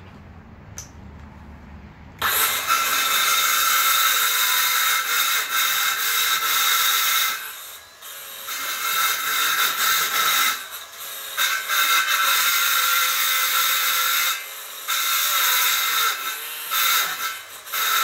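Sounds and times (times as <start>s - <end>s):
circular saw cutting board: 2.2s - 18.0s.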